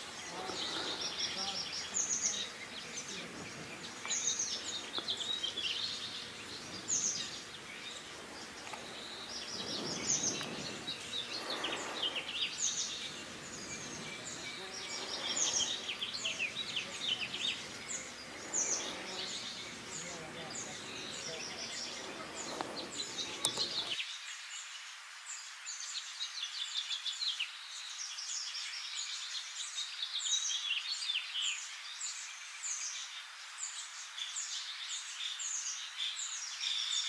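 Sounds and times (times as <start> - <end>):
small songbirds chirping: 0.0 - 37.0.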